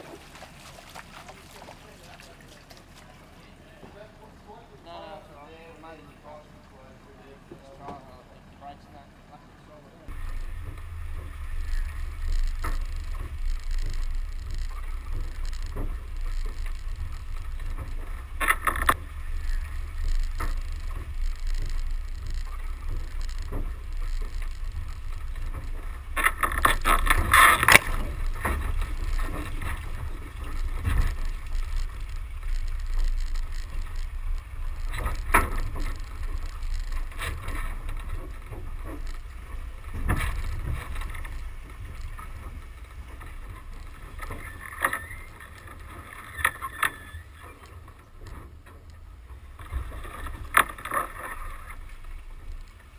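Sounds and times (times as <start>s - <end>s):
wind and drive rumble: 0.0s - 52.9s
rough bursts of noise: 10.1s - 52.9s.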